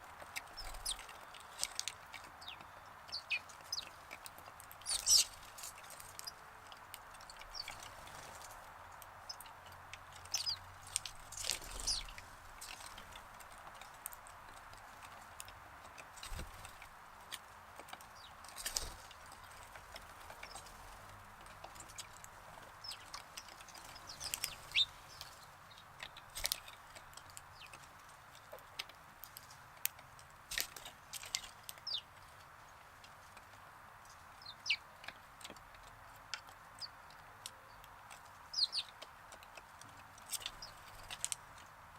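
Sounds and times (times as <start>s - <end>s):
sparrows chirping: 0.3s - 28.7s, 30.5s - 32.8s, 33.7s - 36.0s, 36.6s - 39.0s, 40.1s - 41.4s.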